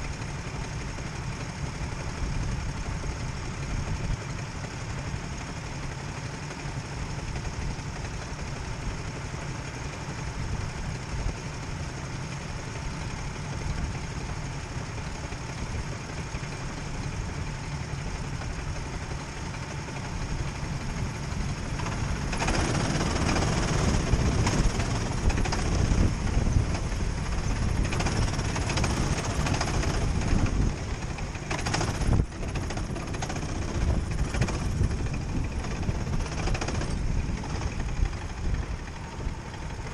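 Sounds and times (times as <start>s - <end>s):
kart engines idling: 0.0s - 39.9s.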